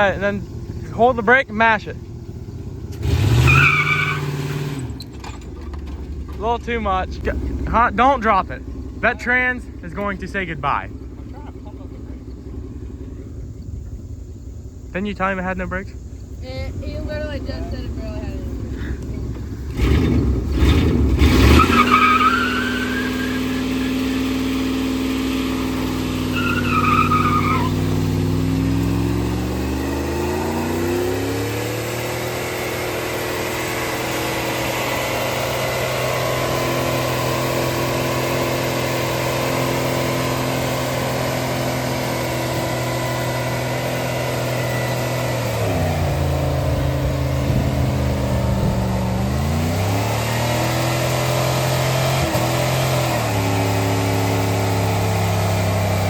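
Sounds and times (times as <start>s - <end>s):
pickup engine revving: 0.0s - 56.0s.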